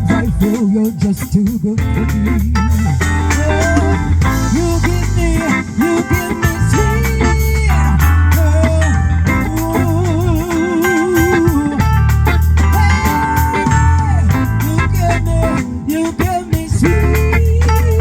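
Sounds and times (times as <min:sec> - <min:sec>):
bass line: 0:00.0 - 0:18.0
bending lead notes: 0:00.0 - 0:18.0.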